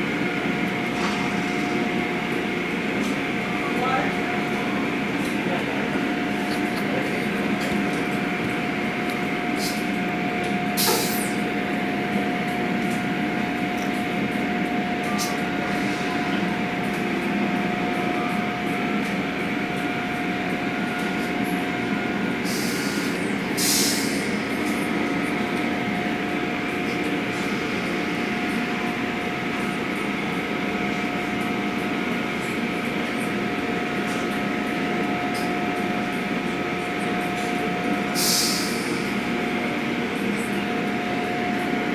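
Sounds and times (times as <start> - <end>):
car wash machinery whine: 0.0 - 41.9.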